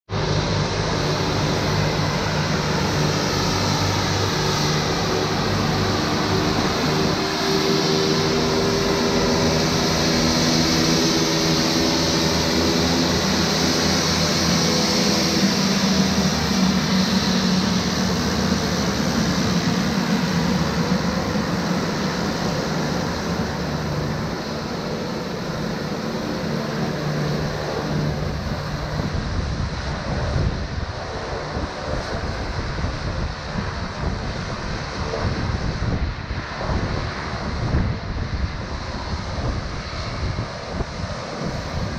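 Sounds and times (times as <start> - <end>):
high turbine whine: 0.1 - 41.9
turboprop plane engines running: 0.1 - 41.9.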